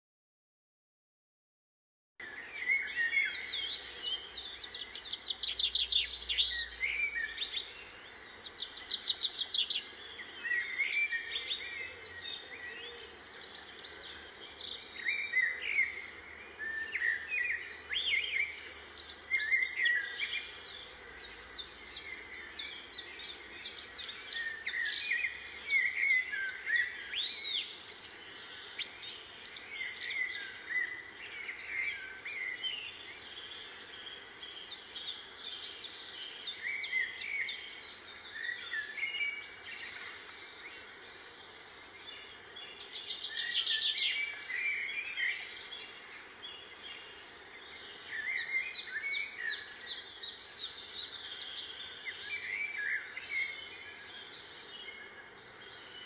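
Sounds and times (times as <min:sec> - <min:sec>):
birds chirping and calling: 0:02.2 - 0:56.0.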